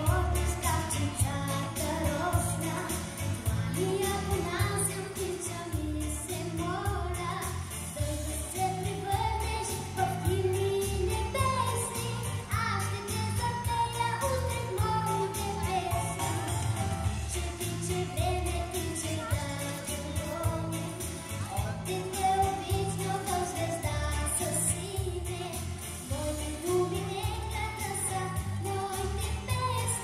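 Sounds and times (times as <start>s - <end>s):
girls singing into microphones: 0.0s - 16.2s, 17.2s - 30.0s
backing music with steady beat: 0.0s - 30.0s.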